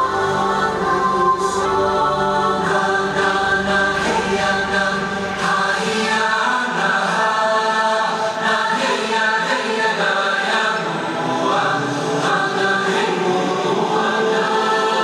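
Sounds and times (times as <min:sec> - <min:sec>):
choir singing held notes: 0:00.0 - 0:15.0
musical backing: 0:00.0 - 0:15.0.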